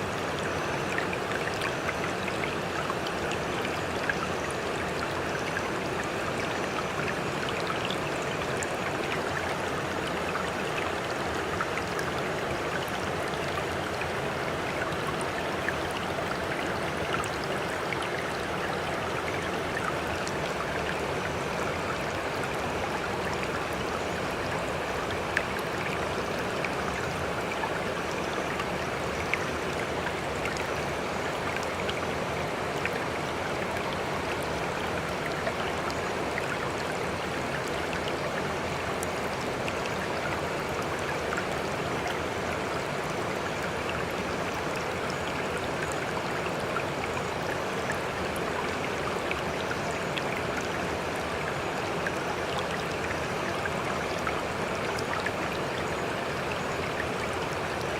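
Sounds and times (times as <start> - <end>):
water splashes and drips: 0.0 - 57.9.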